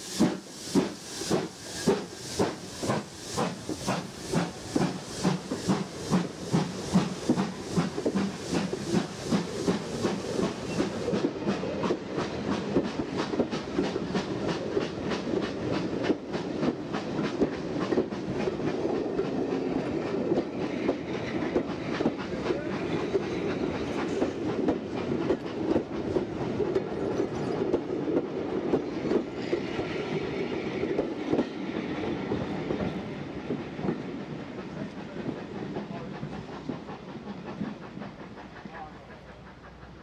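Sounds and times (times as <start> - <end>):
train wheels clattering over rail joints: 0.2 - 40.0.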